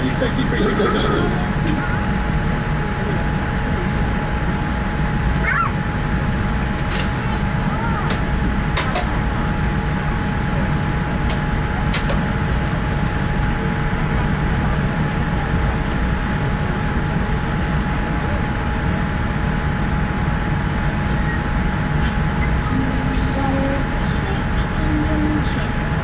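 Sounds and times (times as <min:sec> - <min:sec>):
airliner cabin rumble: 0:00.0 - 0:26.0
faint steady whine: 0:00.0 - 0:26.0.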